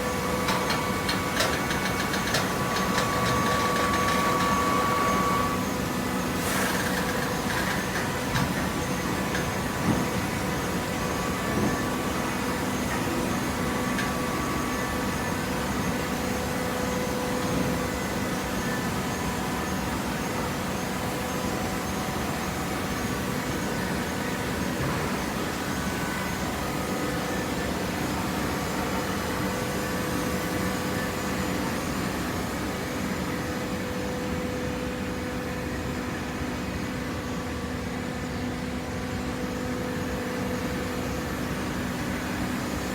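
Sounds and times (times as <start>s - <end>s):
baler mechanical hum: 0.0s - 42.9s.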